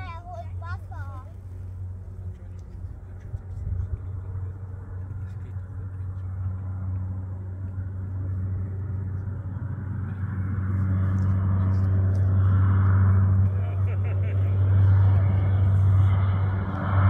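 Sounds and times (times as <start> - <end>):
propeller engine droning: 0.0 - 17.0.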